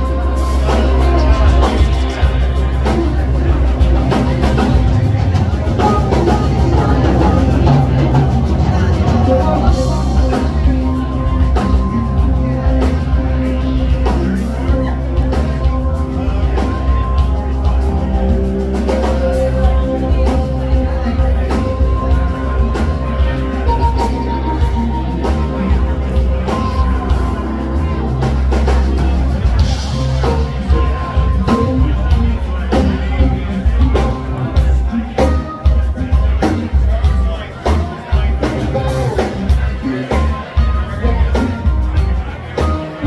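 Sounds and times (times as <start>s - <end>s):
bass guitar: 0.0s - 43.0s
drum kit beat: 0.0s - 43.0s
electric guitars: 0.0s - 43.0s
long held guitar notes: 0.0s - 43.0s.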